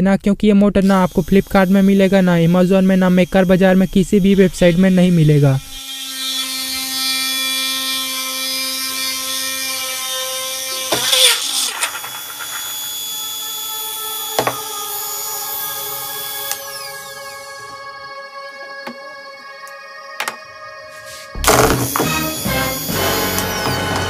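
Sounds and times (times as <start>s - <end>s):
drill grinding into wood: 0.8s - 17.8s, 21.4s - 24.0s
electric motor whining: 0.8s - 24.0s.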